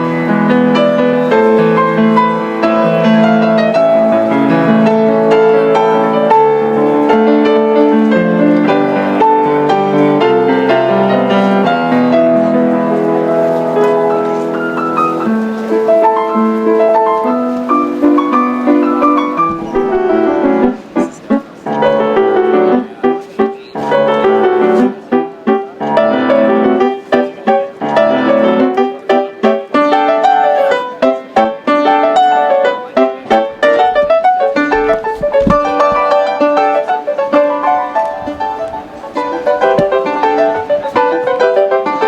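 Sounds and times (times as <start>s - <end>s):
grand piano melody: 0.0s - 42.0s.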